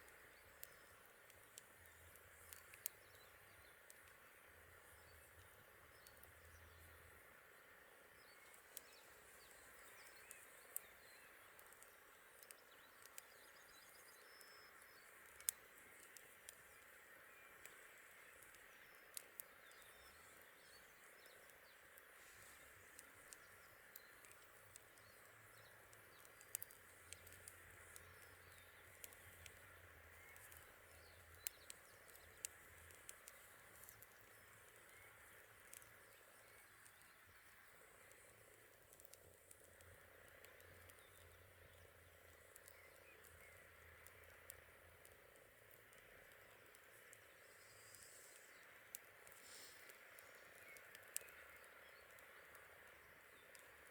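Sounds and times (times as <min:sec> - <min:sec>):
campfire crackling and popping: 0:00.0 - 0:53.9
faint steady hiss: 0:00.0 - 0:53.9.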